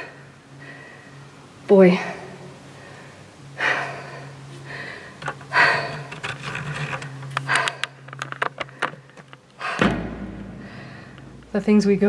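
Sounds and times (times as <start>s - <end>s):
heavy breathing: 0.0s - 11.5s.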